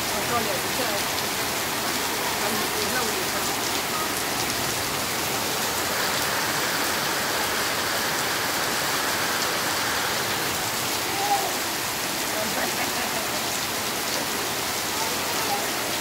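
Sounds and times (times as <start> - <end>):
heavy rain on pavement and trees: 0.0 - 16.0.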